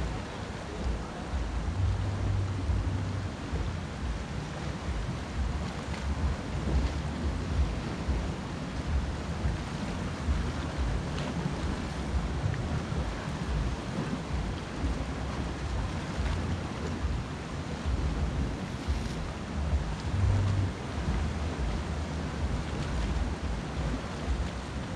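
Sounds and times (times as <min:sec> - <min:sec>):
wind buffeting microphone: 0:00.0 - 0:24.9
surf breaking on rocks: 0:03.5 - 0:24.9.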